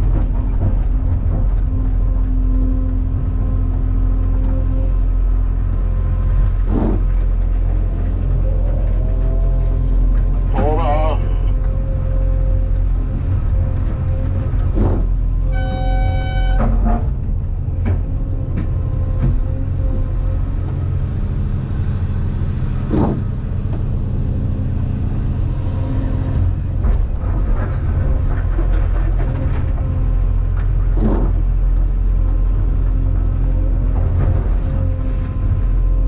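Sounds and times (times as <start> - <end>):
excavator diesel engine: 0.0 - 36.0
hydraulics working: 0.0 - 36.0.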